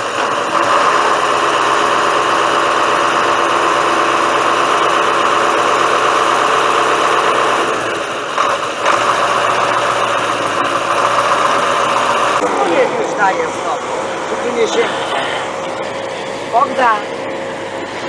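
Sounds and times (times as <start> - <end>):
crane engine running: 0.0 - 18.0.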